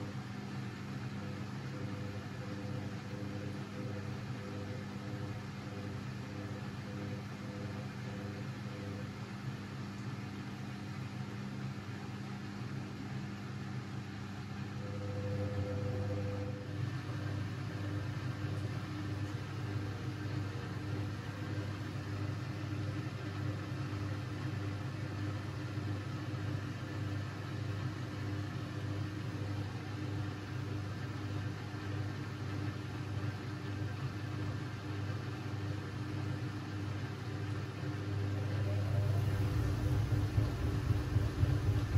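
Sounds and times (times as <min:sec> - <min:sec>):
washing machine humming: 0:00.0 - 0:41.9.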